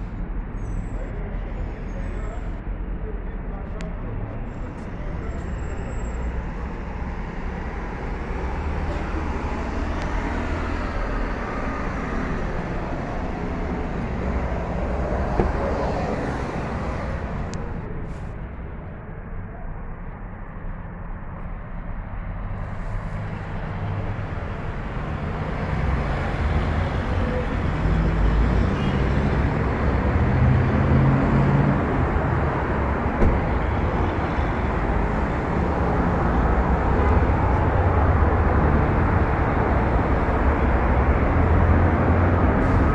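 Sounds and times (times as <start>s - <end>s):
vehicle engine and road rumble: 0.0s - 42.9s.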